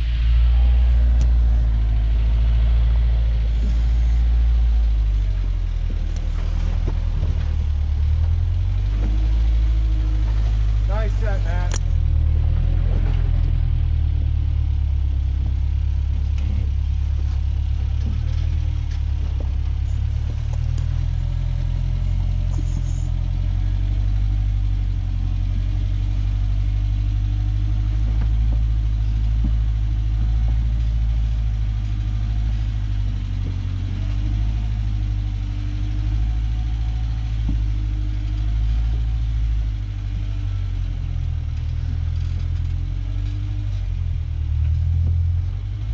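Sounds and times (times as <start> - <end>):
off-road engine low rumble: 0.0 - 45.9.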